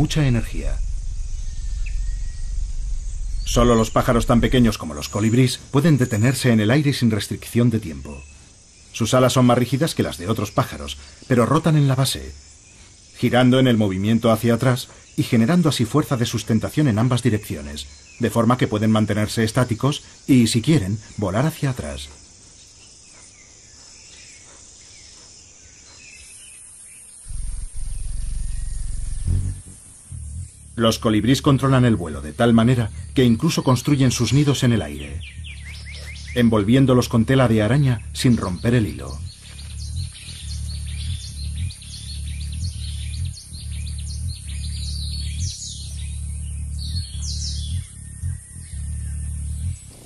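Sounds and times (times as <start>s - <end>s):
hummingbird wings humming: 0.0s - 16.6s, 21.2s - 50.0s
faint chirps: 0.0s - 50.0s.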